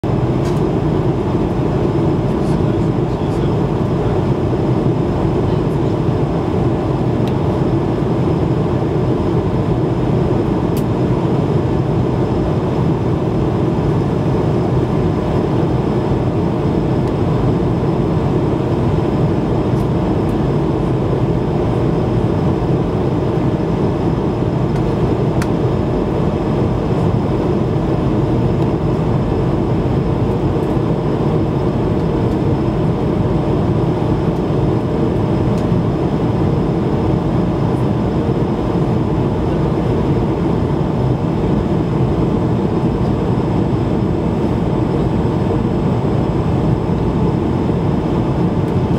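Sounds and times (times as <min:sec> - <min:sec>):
airplane cabin low rumble: 0:00.0 - 0:48.9.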